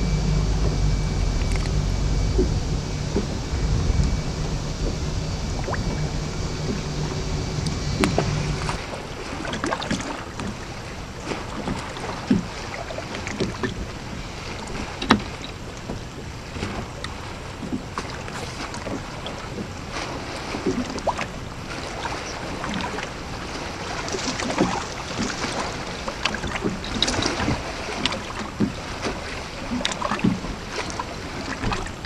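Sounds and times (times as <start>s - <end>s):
motor hum: 0.0s - 29.0s
water slapping against boat hull: 0.0s - 32.0s.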